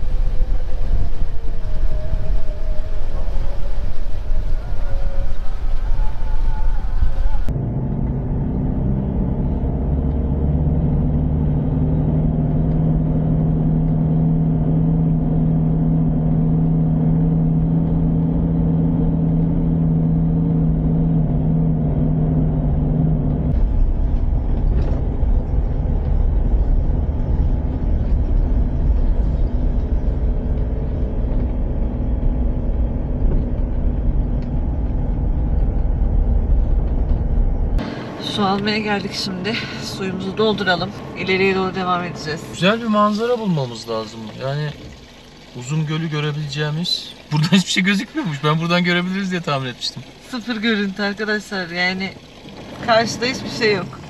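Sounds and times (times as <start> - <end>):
car engine hum: 0.0 - 54.0
road rumble: 0.0 - 54.0.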